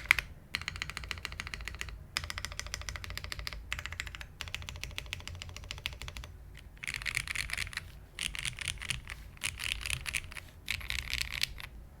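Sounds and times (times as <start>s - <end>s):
mechanical keyboard typing: 0.0s - 11.7s.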